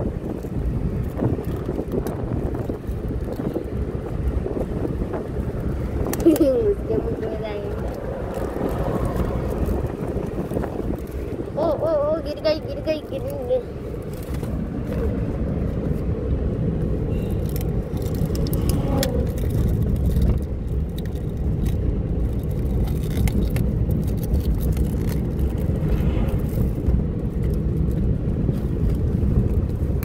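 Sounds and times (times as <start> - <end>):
vehicle road rumble: 0.0 - 30.0.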